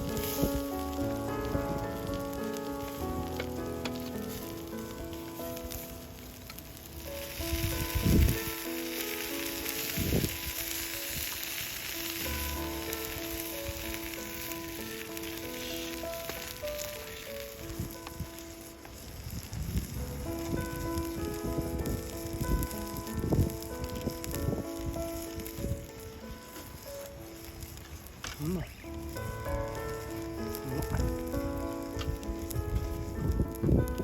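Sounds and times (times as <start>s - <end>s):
food sizzling over a fire: 0.0s - 34.0s
soft instrumental music: 0.0s - 34.0s.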